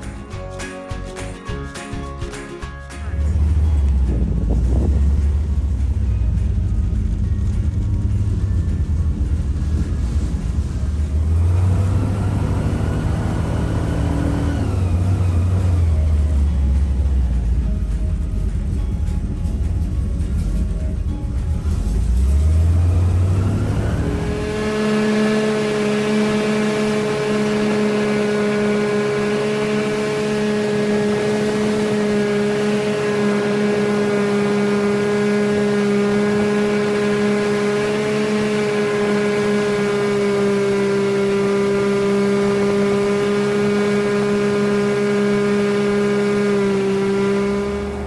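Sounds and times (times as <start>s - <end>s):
airboat engine and propeller: 3.1s - 48.0s.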